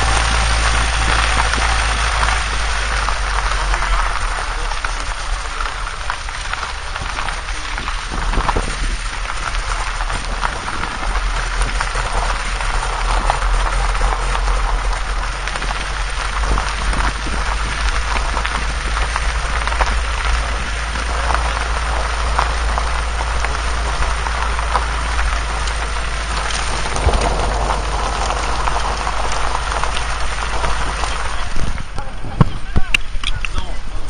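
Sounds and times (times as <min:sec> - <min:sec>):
tyre crunching gravel: 0:00.0 - 0:32.0
low engine rumble: 0:00.0 - 0:34.0.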